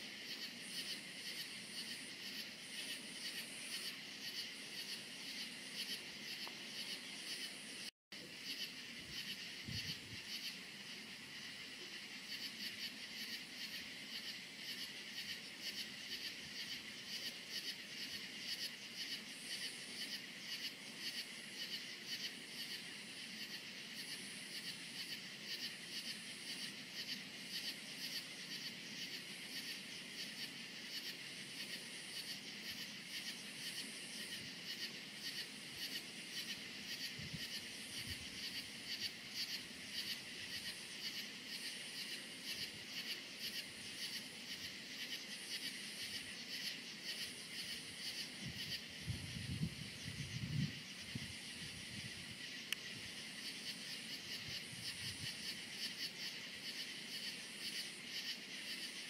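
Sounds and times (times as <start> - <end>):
crickets chirping: 0.0 - 59.0
high-pitched insect call: 0.0 - 59.0.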